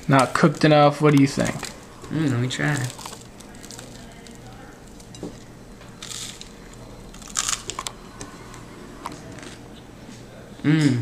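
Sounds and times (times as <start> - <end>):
crunching toasted bread: 0.0 - 9.6
low steady hum: 0.0 - 11.0.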